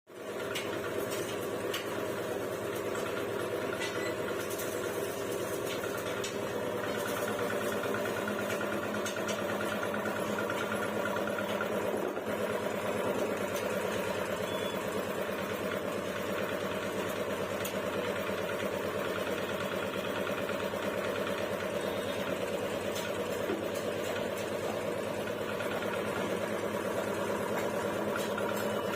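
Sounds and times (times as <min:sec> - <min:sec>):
air compressor running: 0:00.2 - 0:28.9.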